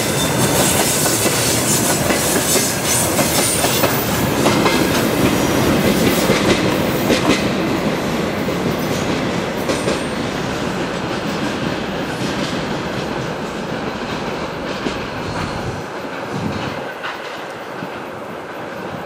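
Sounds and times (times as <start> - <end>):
train wheels clacking over rails: 0.0 - 19.0.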